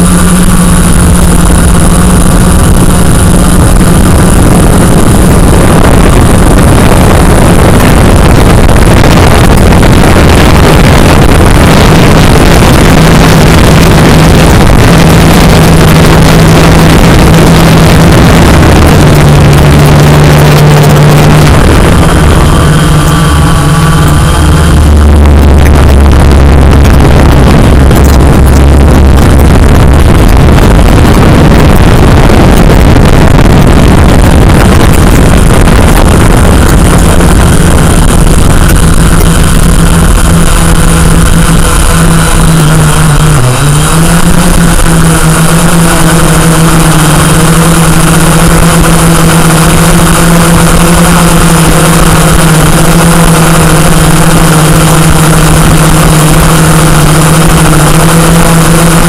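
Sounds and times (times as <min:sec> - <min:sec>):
drone motors humming: 0:00.0 - 0:59.0.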